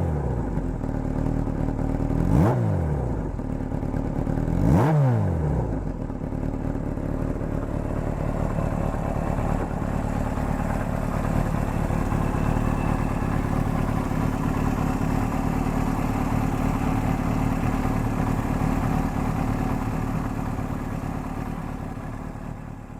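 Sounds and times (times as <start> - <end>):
motorcycle engine idling: 0.0 - 4.8, 5.4 - 22.9.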